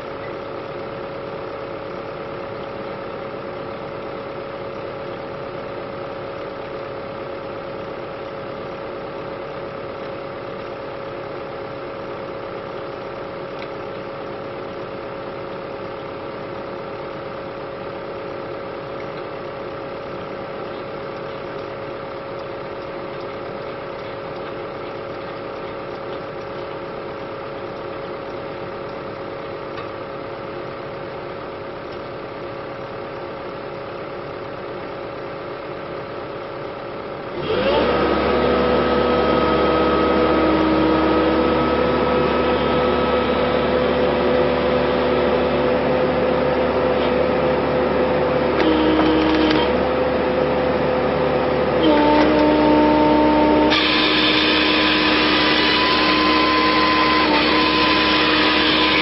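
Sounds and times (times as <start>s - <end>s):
excavator diesel engine whining: 0.0s - 59.0s.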